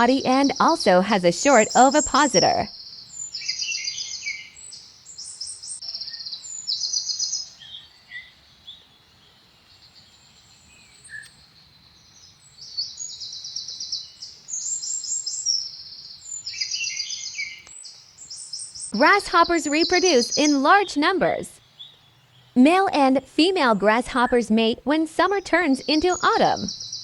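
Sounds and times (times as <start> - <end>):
birds chirping and trilling: 0.0 - 27.0.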